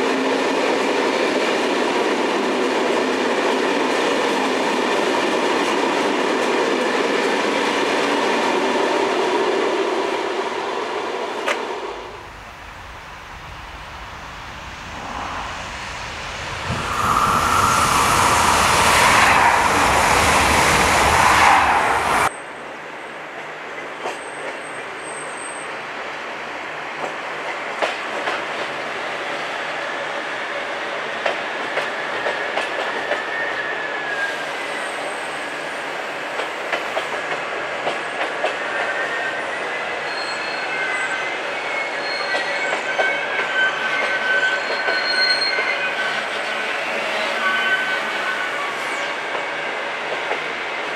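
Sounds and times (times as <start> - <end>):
train passing at speed: 0.0 - 50.9.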